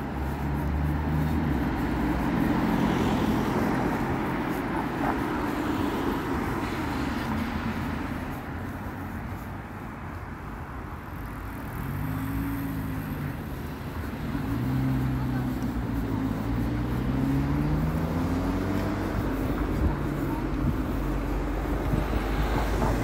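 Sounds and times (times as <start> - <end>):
car engine humming: 0.0 - 23.0
road noise rumble: 0.0 - 23.0.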